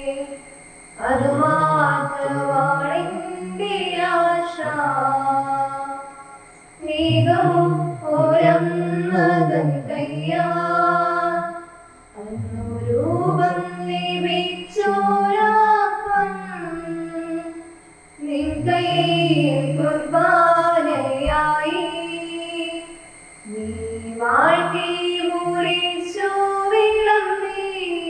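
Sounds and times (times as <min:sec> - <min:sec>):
voices singing a hymn: 0:00.0 - 0:28.0.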